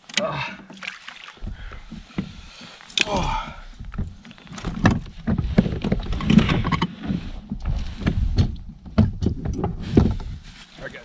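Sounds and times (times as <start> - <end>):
knocks and clatter on a kayak: 0.0 - 10.8.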